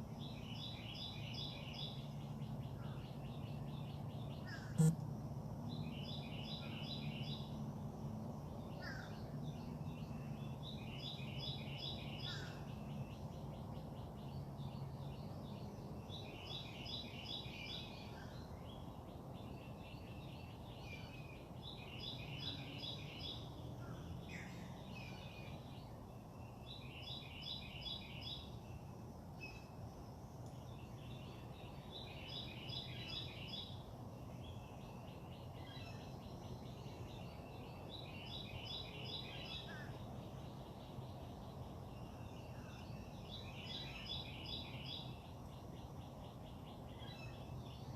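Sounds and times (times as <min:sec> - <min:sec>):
songbird singing: 0:00.0 - 0:47.9.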